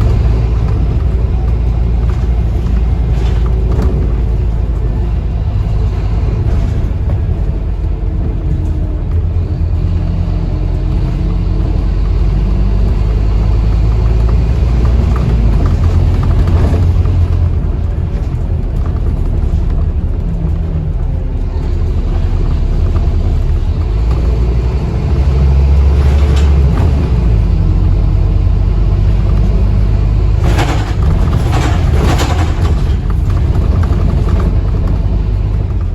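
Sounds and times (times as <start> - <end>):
bus engine and road rumble: 0.0 - 35.9.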